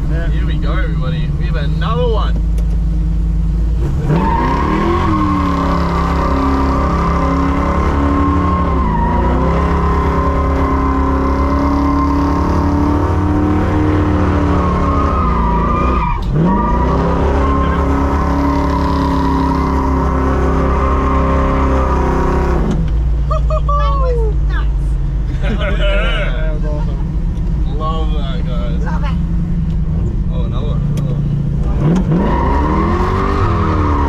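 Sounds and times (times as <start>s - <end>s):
car engine revving: 0.0s - 23.6s, 24.3s - 34.0s.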